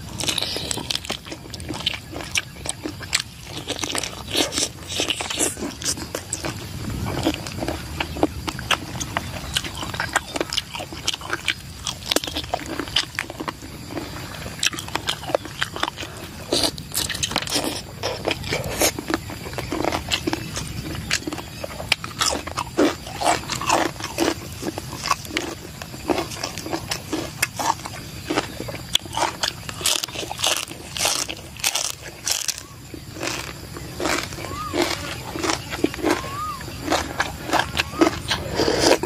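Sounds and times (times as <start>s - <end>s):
person chewing and crunching: 0.0s - 39.0s.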